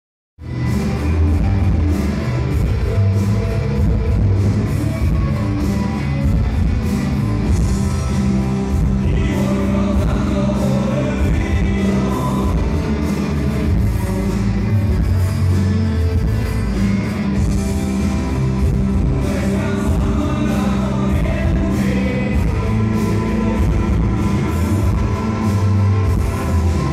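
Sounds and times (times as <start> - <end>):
rock music with singing: 0.4 - 26.9.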